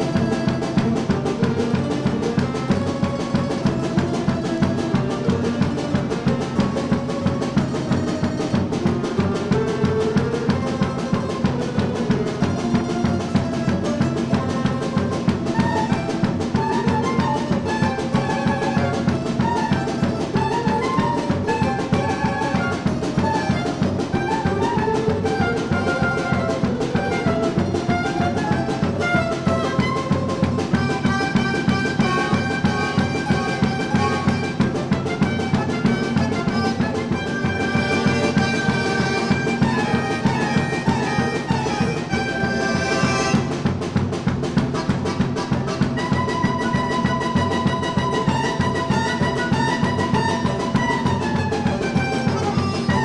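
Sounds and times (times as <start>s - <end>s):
flute: 0.0s - 53.0s
strummed lutes: 0.0s - 53.0s.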